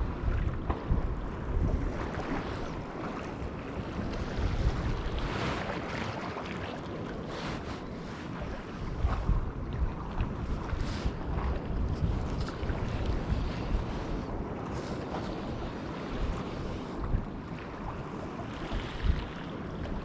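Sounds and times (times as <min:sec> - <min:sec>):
sea water washing: 0:00.0 - 0:20.0
wind buffeting microphone: 0:00.0 - 0:20.0.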